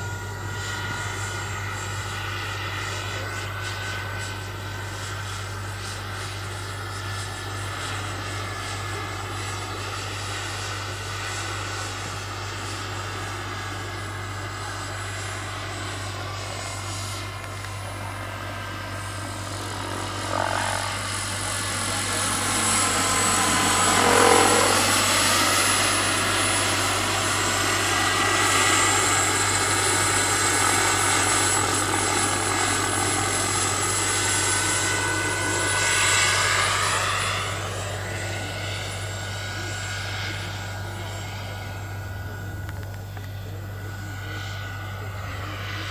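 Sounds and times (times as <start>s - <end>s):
helicopter rotors: 0.0s - 45.9s
model helicopter turbine whine: 0.0s - 45.9s.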